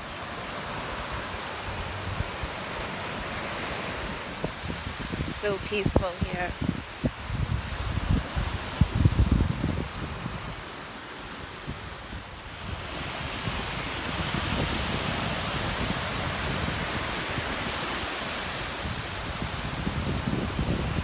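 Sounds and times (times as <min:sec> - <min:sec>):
ocean surf washing onto beach: 0:00.0 - 0:21.0
wind buffeting microphone: 0:00.0 - 0:21.0.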